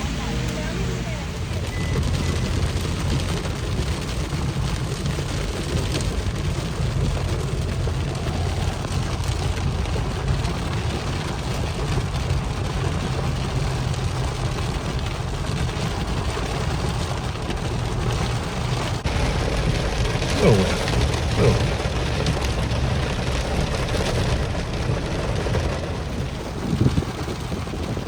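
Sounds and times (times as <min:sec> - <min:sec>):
steady rain: 0:00.0 - 0:28.0
wind rumbling on microphone: 0:00.0 - 0:28.0.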